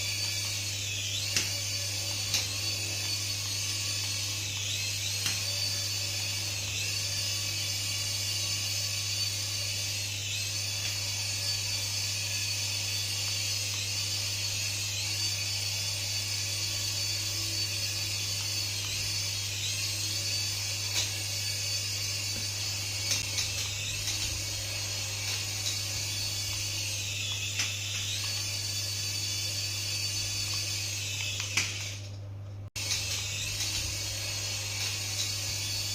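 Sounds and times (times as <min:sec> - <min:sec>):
toy electric motor whining: 0:00.0 - 0:32.2, 0:32.8 - 0:35.9.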